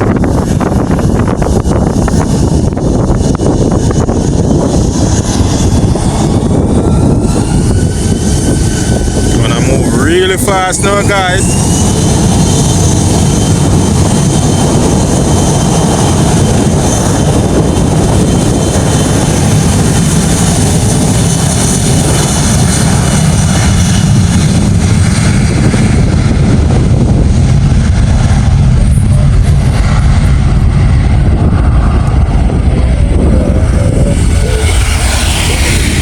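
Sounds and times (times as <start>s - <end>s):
airplane taking off: 0.0s - 36.0s.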